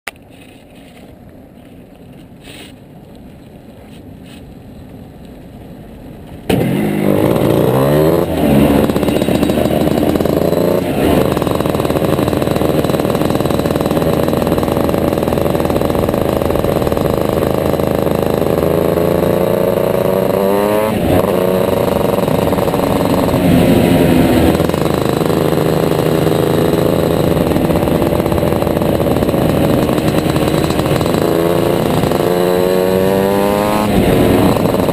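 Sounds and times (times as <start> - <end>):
kart engine accelerating: 6.5 - 34.9.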